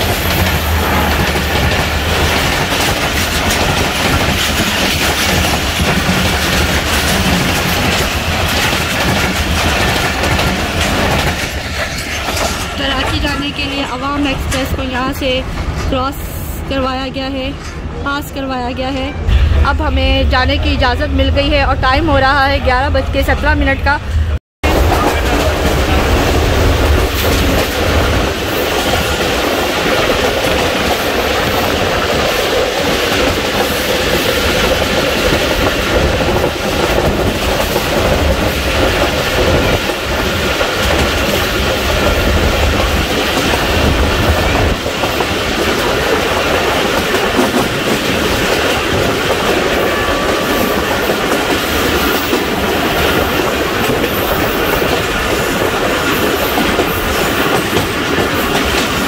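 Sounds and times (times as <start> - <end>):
wheels clacking over rail joints: 0.0 - 16.0, 24.7 - 59.0
train rumble: 0.0 - 59.0.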